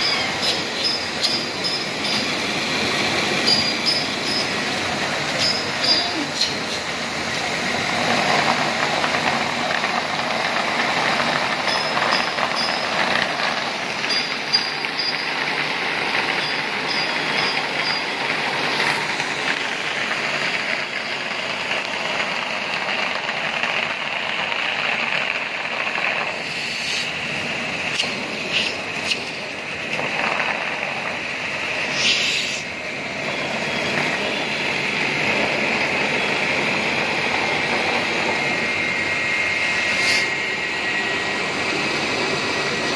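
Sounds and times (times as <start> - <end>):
water jet discharging into tank: 0.0 - 42.9.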